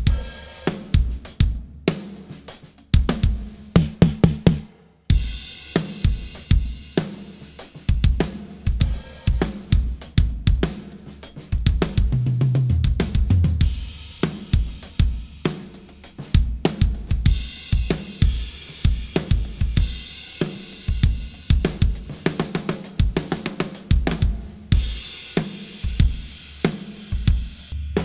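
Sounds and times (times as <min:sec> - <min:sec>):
acoustic drum kit groove: 0:00.0 - 0:28.0.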